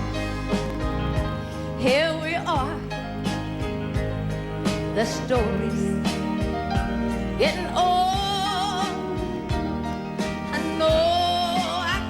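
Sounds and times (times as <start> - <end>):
country song with singing: 0.0 - 12.0.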